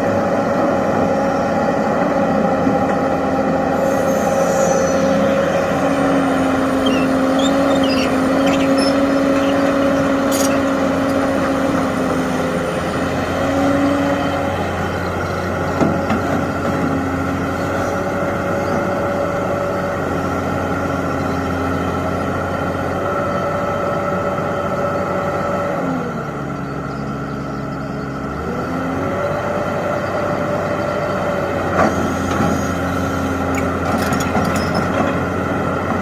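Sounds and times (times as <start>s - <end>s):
diesel engine running: 0.0s - 36.0s
engine whine: 0.0s - 36.0s.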